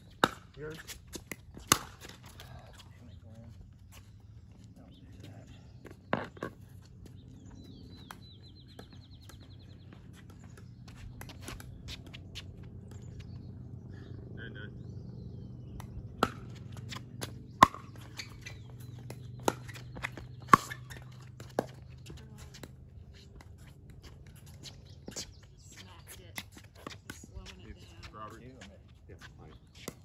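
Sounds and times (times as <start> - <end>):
footsteps and shoe scuffs on court: 0.7 - 13.4, 16.5 - 30.0.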